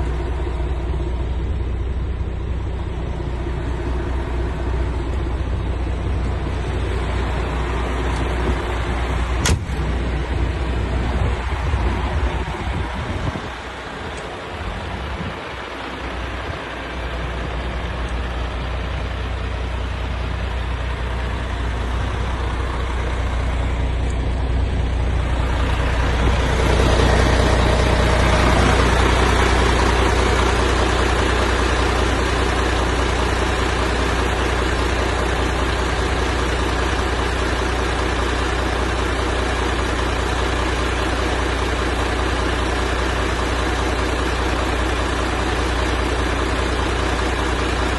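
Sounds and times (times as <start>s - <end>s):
truck diesel engine idling: 0.0s - 47.9s.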